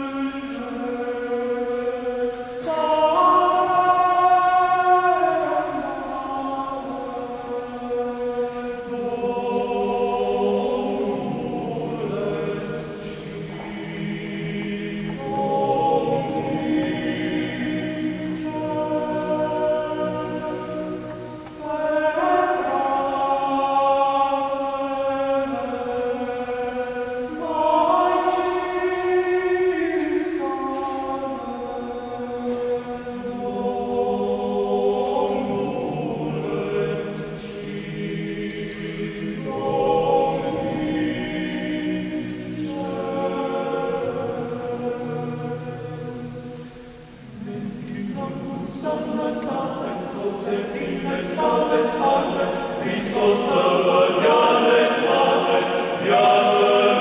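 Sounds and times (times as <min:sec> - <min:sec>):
male choir singing a cappella: 0:00.0 - 0:57.0.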